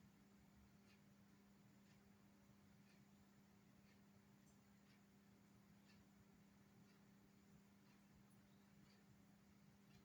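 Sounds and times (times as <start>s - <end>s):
faint low hum: 0.0s - 10.0s
faint ticks: 0.6s - 10.0s.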